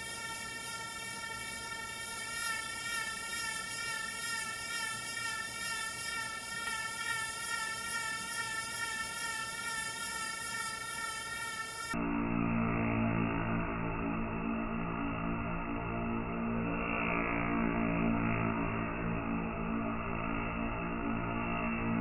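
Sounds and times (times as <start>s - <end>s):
electronic buzzing tone: 0.0s - 22.0s.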